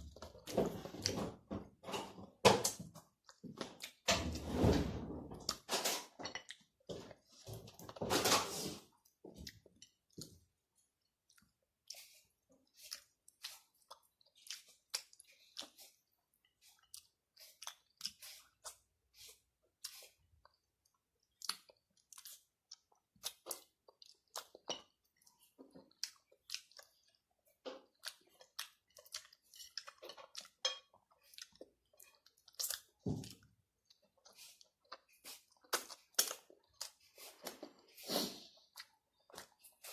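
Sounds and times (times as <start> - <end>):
person chewing and crunching food: 0.0 - 4.4, 5.3 - 39.9.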